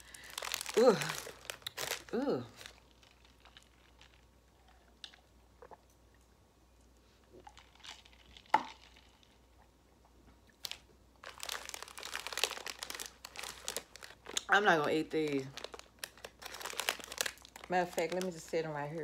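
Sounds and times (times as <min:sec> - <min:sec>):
plastic bag crinkling: 0:00.0 - 0:05.2, 0:07.4 - 0:09.4, 0:10.6 - 0:19.0.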